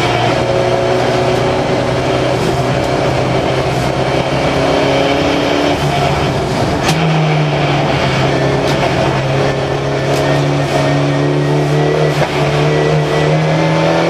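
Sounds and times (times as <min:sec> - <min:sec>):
race car engine under load: 0:00.0 - 0:14.0.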